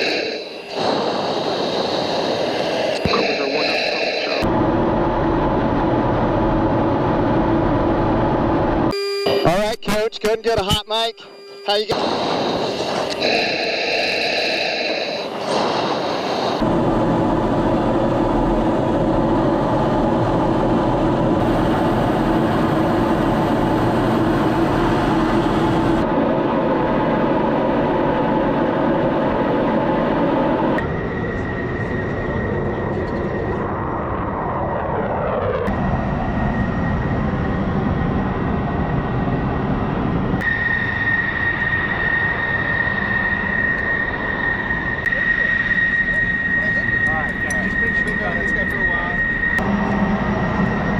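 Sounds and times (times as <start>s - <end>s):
jet engine rushing: 0.0s - 9.0s, 10.2s - 50.9s
jet engine high whine: 0.0s - 50.9s
low hum: 0.0s - 50.9s.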